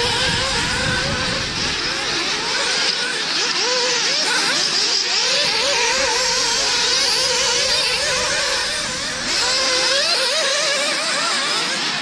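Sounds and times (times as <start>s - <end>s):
rc car engines racing: 0.0s - 12.0s.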